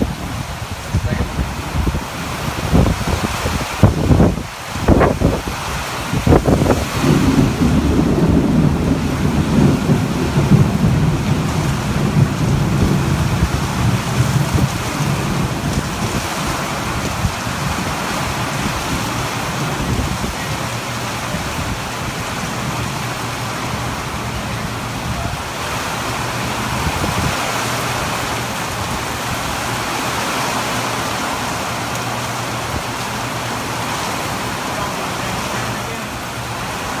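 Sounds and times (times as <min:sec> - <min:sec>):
thunder rumbling: 0:00.0 - 0:34.7
heavy rain on pavement: 0:00.0 - 0:37.0.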